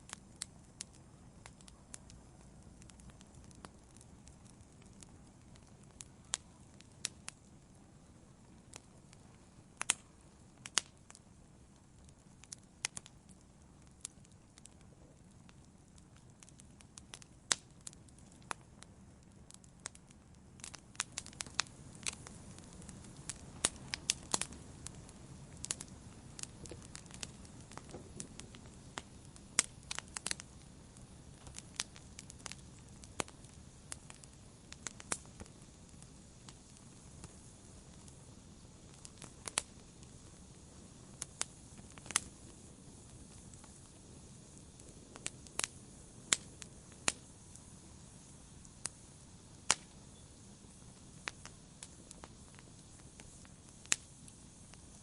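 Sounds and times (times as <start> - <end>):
campfire flames rumbling: 0.0 - 55.0
fire crackling and popping: 0.0 - 55.0.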